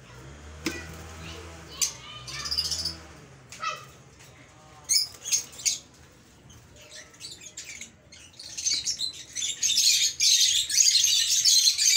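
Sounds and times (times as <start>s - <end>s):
lovebirds chirping and chattering: 0.7s - 11.9s.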